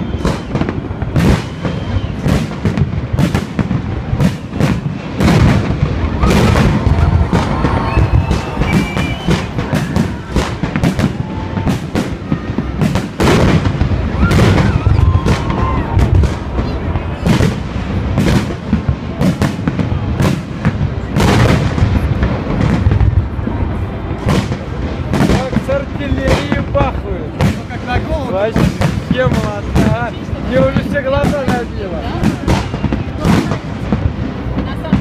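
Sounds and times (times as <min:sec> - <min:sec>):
fireworks bangs and booms: 0:00.0 - 0:35.0.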